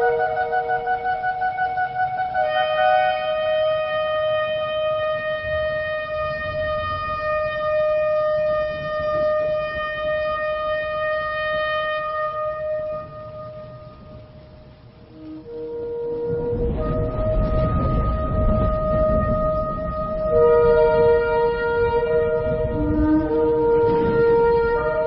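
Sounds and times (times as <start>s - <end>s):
shofar blowing: 0.0s - 25.0s.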